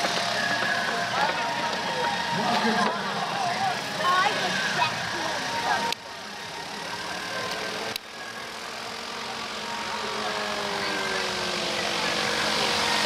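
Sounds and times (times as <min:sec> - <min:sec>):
engine running: 0:00.0 - 0:13.0
outdoor background noise: 0:00.0 - 0:13.0.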